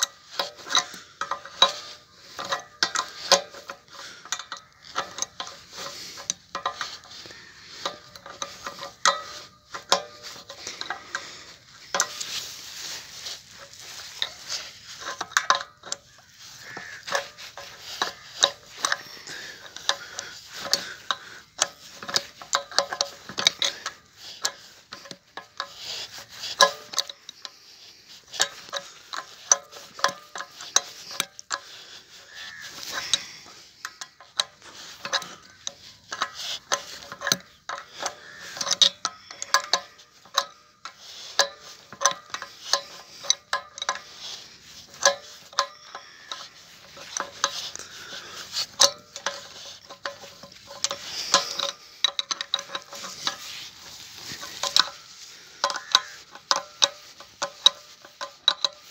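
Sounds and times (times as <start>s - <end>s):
metal clinks: 0.0s - 58.9s
ratchet wrench clicking: 0.0s - 58.9s.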